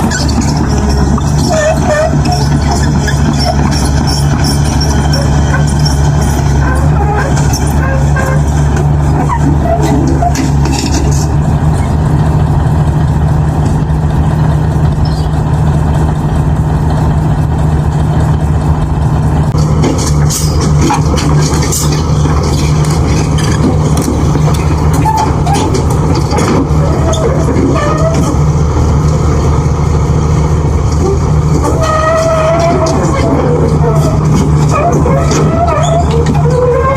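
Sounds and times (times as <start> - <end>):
heavy vehicle engine humming: 0.0 - 36.9.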